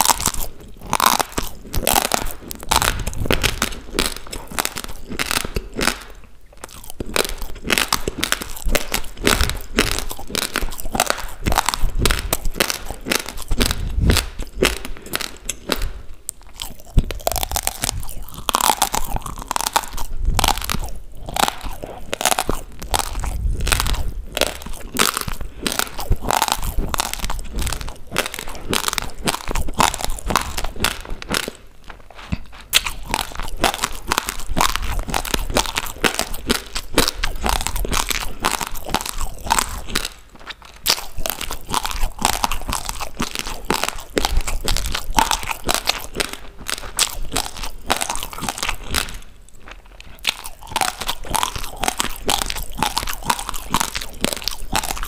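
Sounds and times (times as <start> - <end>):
chewing crunchy rice grains: 0.0 - 55.0.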